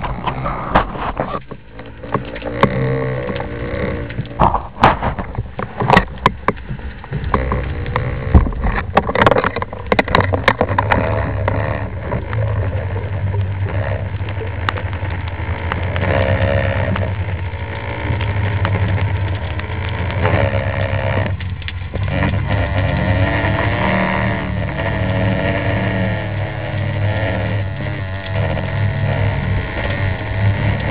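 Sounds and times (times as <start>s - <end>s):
sharp clicks and knocks: 0.0s - 30.9s
underwater boat motor drone: 0.0s - 30.9s.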